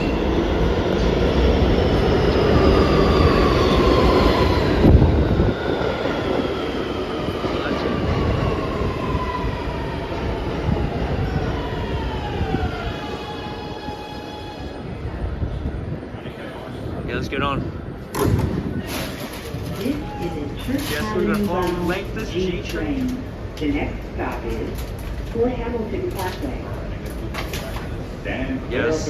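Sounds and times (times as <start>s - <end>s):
subway train electric motors whining: 0.0s - 29.0s
wheels rumbling on rail: 0.0s - 29.0s.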